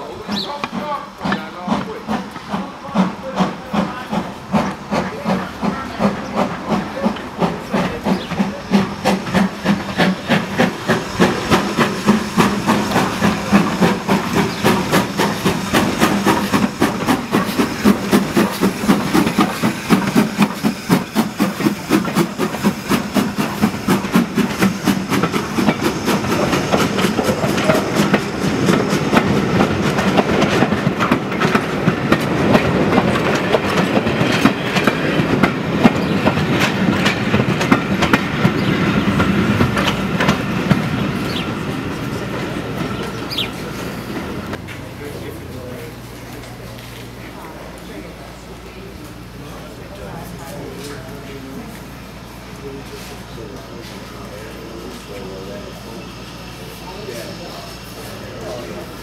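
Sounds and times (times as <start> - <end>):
steam locomotive running past: 0.0 - 59.0.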